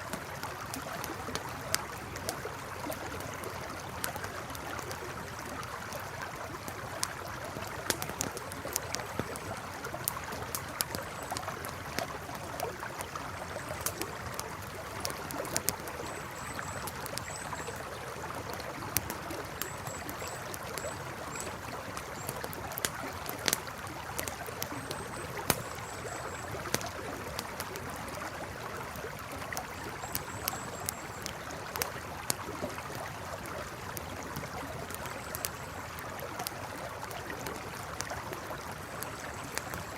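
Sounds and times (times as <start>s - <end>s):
campfire crackling: 0.0s - 39.9s
flowing river: 0.0s - 39.9s.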